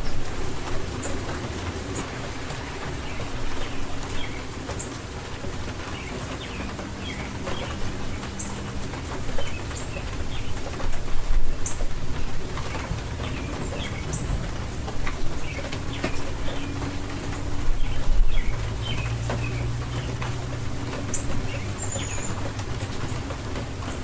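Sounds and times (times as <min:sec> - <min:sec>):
birds chirping: 0:00.0 - 0:24.0
rain hissing: 0:00.0 - 0:24.0.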